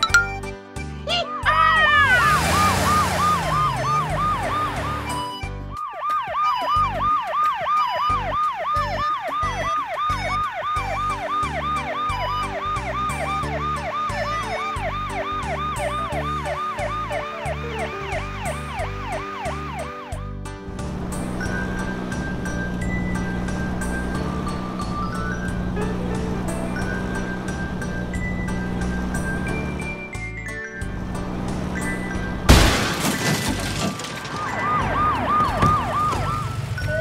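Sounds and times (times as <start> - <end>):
children's music: 0.0 - 32.6
ambulance siren warbling: 1.8 - 20.2, 21.2 - 30.2, 34.0 - 37.0.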